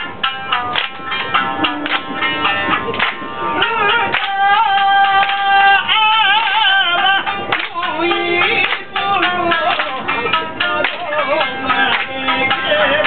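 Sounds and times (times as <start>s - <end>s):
shamisen plucking: 0.0s - 13.0s.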